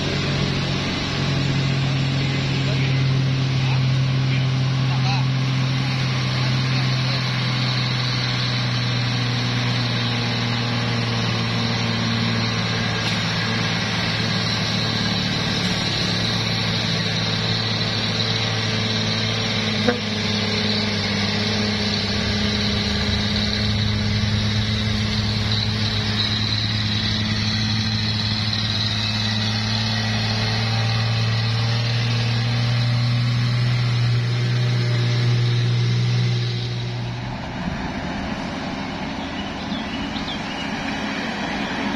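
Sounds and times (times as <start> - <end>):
truck diesel engine droning: 0.0 - 41.9.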